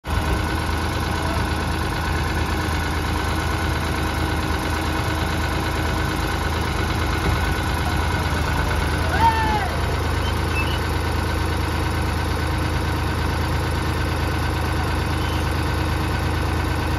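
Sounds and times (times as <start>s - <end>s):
diesel engines humming: 0.0s - 16.9s.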